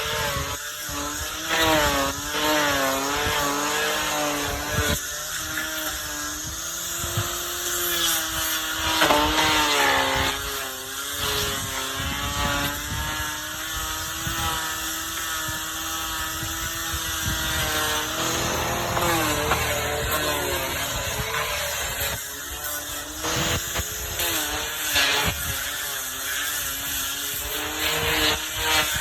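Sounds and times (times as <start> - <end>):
power tool cutting wood: 0.0 - 29.0.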